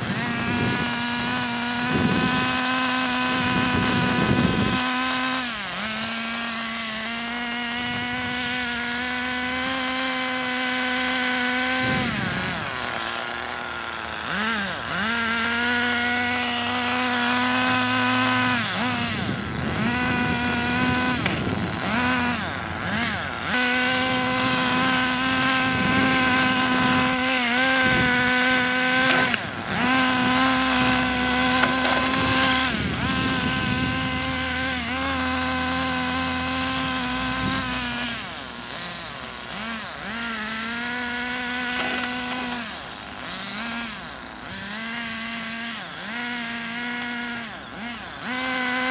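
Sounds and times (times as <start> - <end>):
rc car engine buzzing: 0.0 - 48.9.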